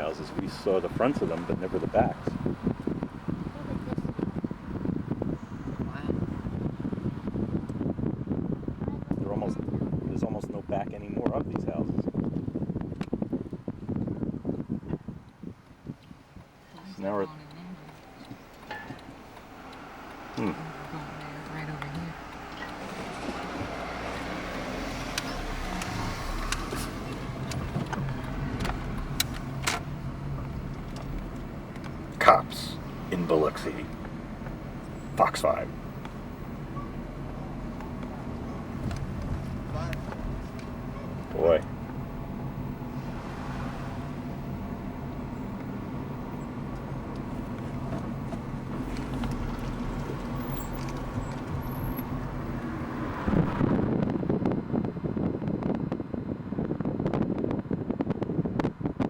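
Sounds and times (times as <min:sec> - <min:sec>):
car engine hum inside car: 0:00.0 - 0:59.0.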